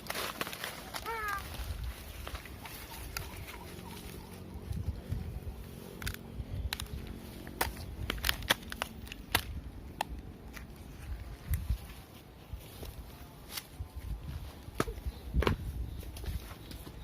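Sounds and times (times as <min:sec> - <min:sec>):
twigs and leaves crackling: 0:00.0 - 0:17.0.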